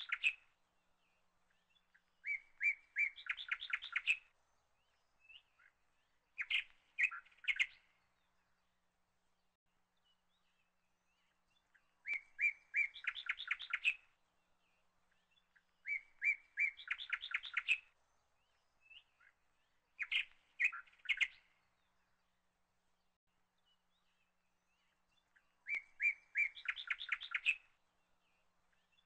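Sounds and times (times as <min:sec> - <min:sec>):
bird singing: 0:00.0 - 0:29.0.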